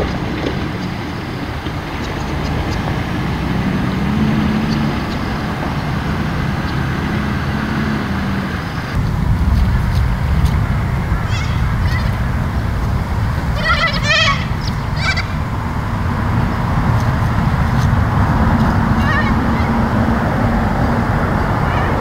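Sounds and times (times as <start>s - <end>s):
bird calls: 0.0s - 9.1s, 11.1s - 22.0s
steady low rumble: 0.0s - 22.0s.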